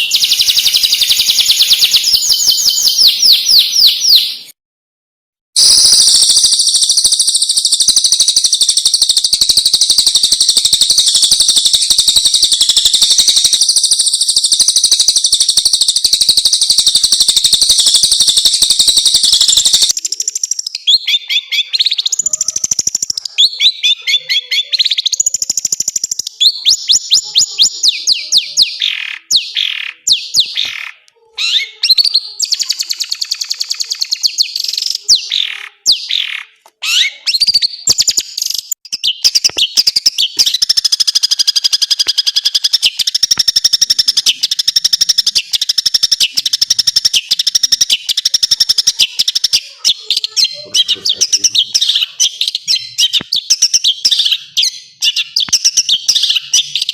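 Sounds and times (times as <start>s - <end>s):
high bird trill: 0.0s - 4.5s, 5.6s - 56.9s
recorded birdsong high chirps: 0.0s - 4.6s, 5.6s - 56.9s.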